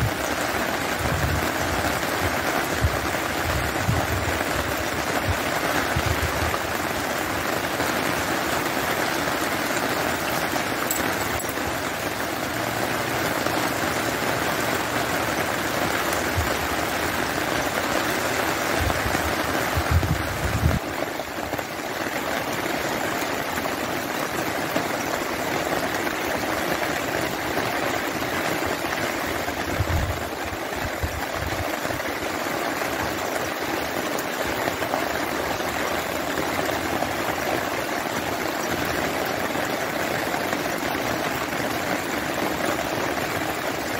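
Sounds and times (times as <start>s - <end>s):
rain falling on wet ground: 0.0s - 43.9s.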